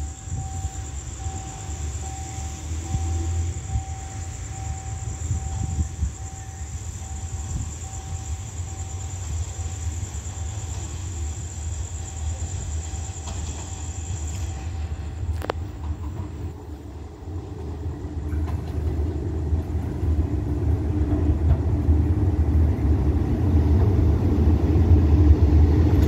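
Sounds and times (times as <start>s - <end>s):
distant diesel locomotive rumble: 0.0s - 26.0s.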